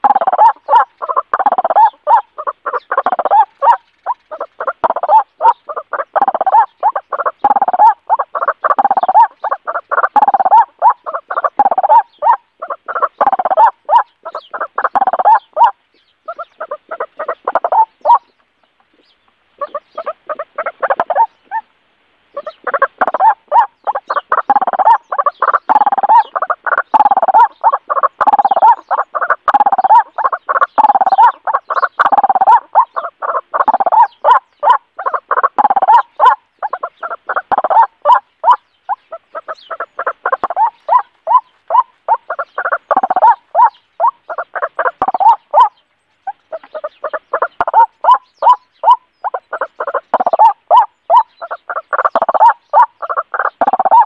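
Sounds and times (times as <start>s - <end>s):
bird calls in choppy pulses: 0.0s - 21.7s, 22.3s - 54.0s.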